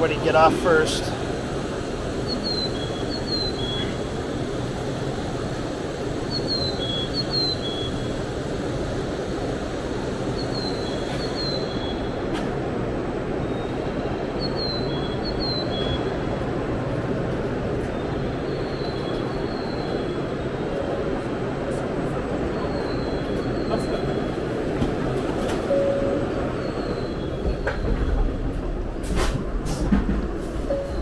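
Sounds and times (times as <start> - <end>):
train hum and hiss: 0.0 - 31.0.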